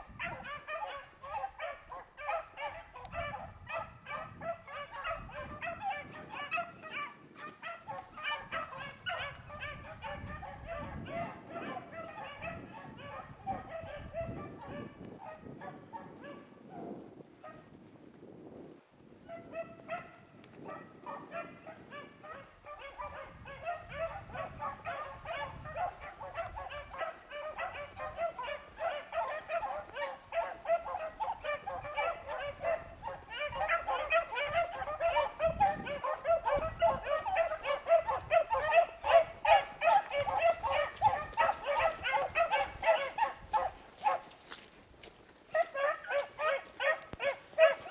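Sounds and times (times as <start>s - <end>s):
dogs baying: 0.0s - 16.5s, 19.3s - 44.6s, 45.5s - 47.9s.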